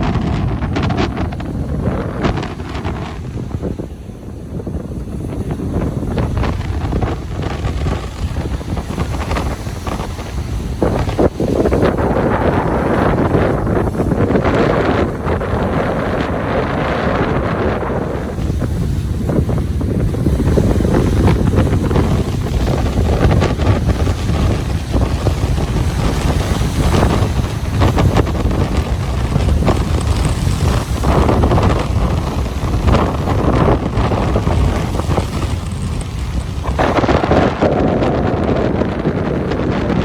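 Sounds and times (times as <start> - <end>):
surf washing onto beach: 0.0 - 40.0
wind buffeting microphone: 0.0 - 40.0.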